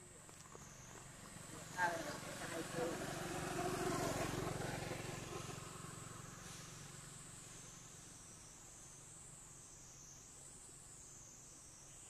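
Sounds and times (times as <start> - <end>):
vehicle engine hum: 0.0 - 10.0.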